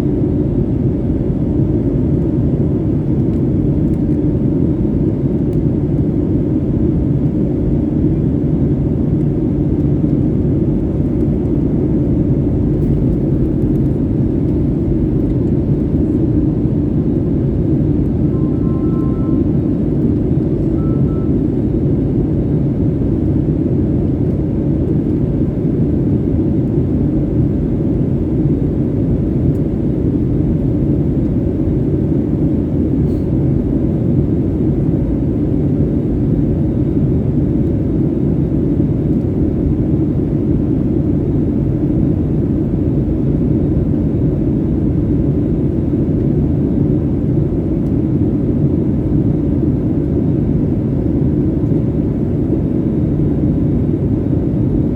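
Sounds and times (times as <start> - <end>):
jet engines rumbling: 0.0 - 54.9.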